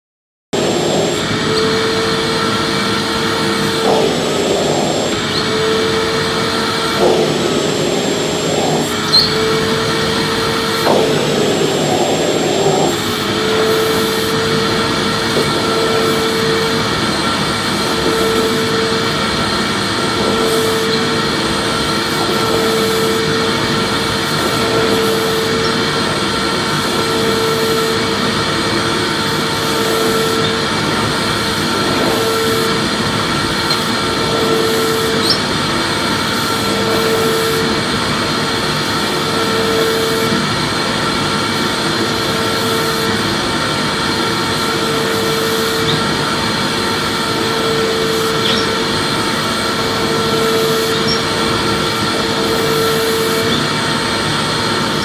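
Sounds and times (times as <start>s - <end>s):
vacuum cleaner running: 0.6s - 55.0s.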